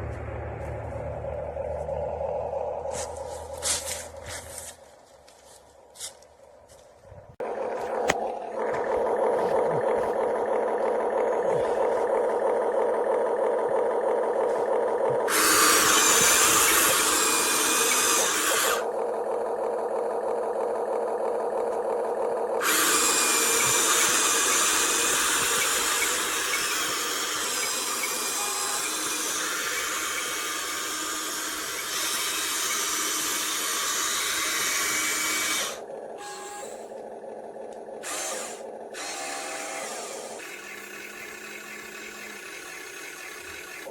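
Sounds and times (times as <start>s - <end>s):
toy truck motor whirring: 8.0s - 43.9s.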